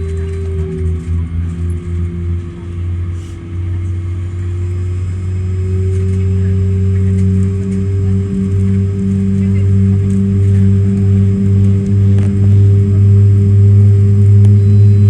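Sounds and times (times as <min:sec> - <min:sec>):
jet engines heard from cabin: 0:00.0 - 0:15.0.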